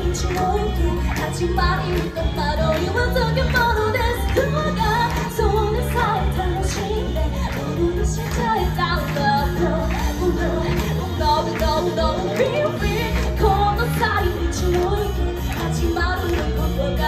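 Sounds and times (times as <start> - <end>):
pop backing music: 0.0 - 17.0
woman singing into microphone: 0.0 - 17.0.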